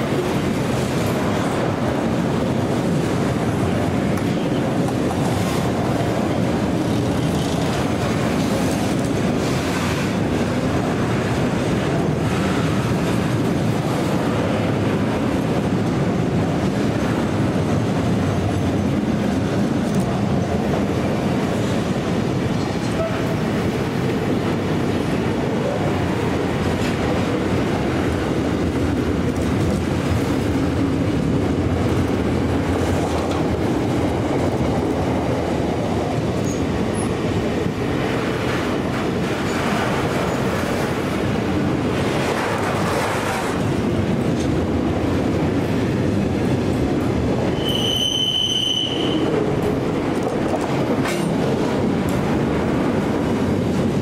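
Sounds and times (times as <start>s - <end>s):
train wheels on rail: 0.0s - 54.0s.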